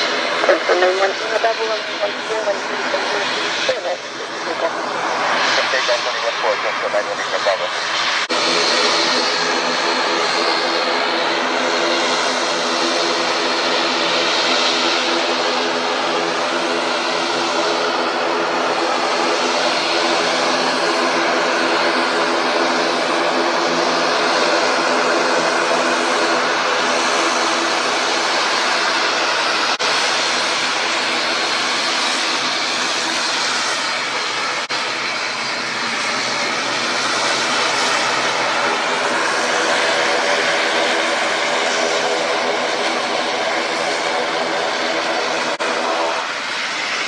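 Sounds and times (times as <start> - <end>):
airliner engines running: 0.0 - 47.0.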